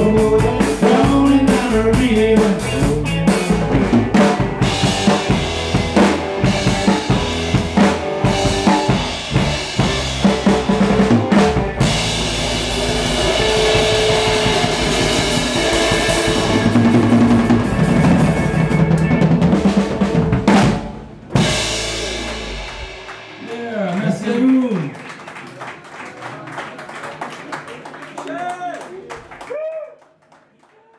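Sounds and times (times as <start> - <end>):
loud drum kit: 0.0 - 25.0
live band playing: 0.0 - 25.4.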